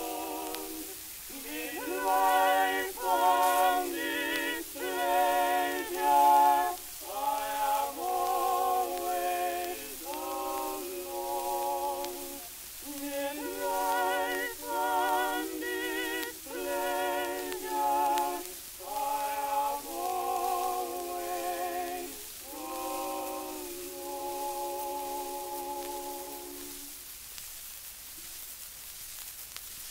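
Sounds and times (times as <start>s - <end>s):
male vocal quartet singing: 0.0s - 26.9s
record surface hiss: 0.0s - 29.9s.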